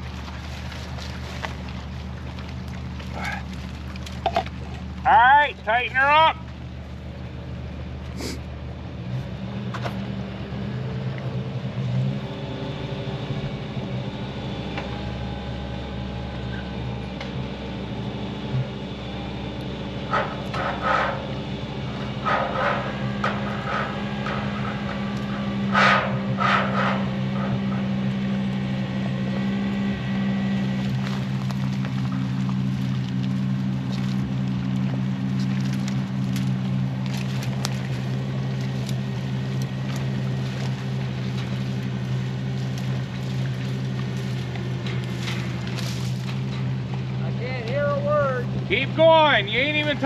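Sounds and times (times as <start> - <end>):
truck engine running: 0.0 - 50.0
winch drawing cable: 0.0 - 50.0.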